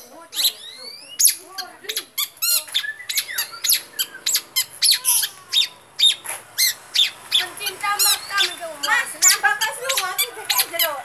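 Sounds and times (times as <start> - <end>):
bird singing sharp notes and trills: 0.0 - 11.0.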